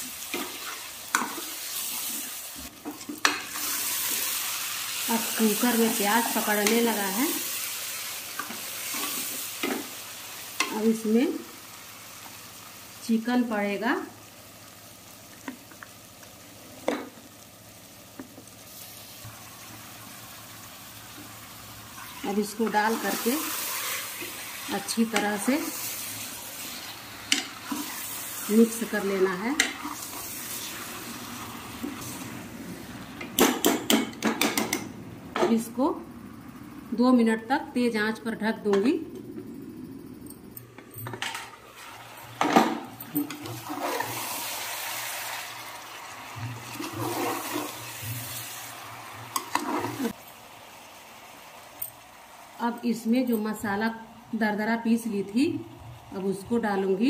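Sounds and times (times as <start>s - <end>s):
masala sizzling in hot oil: 0.0s - 34.7s, 41.2s - 57.0s.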